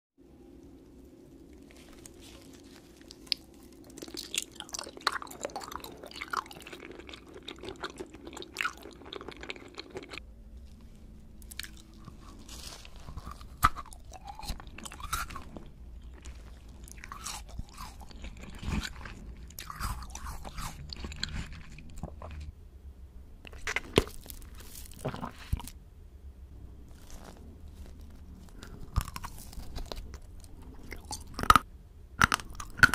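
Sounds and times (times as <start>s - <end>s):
crunching bites and chewing: 0.6s - 10.2s, 11.4s - 22.5s, 23.5s - 25.8s, 26.8s - 32.9s.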